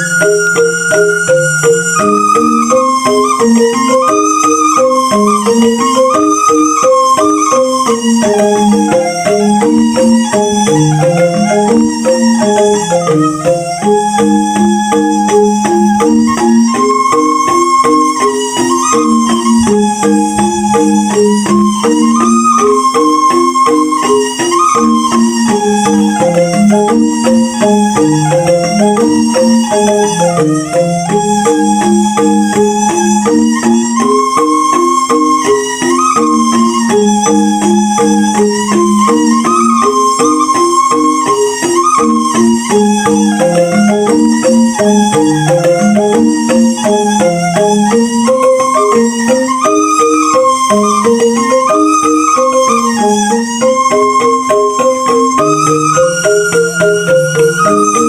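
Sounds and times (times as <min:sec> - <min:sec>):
bamboo xylophone music: 0:00.0 - 0:58.0
held higher tone: 0:00.0 - 0:58.0.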